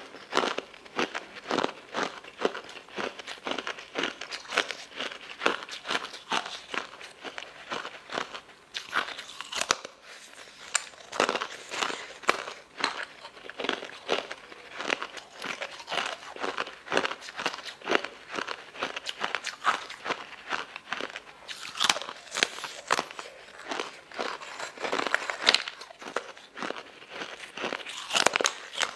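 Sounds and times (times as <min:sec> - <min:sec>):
crunchy food chewing: 0:00.0 - 0:28.9.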